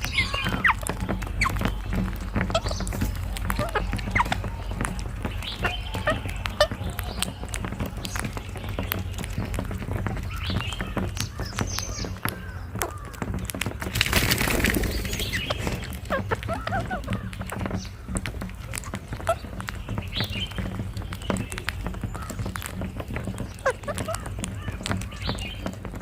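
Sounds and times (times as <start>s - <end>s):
parakeets chirping and squawking: 0.0s - 26.0s.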